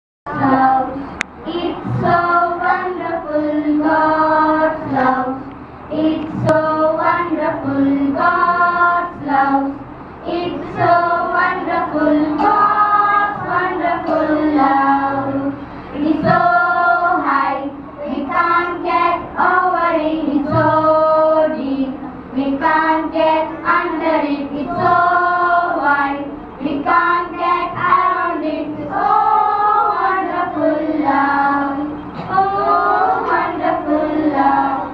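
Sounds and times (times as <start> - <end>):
children singing worship song: 0.3 - 34.9.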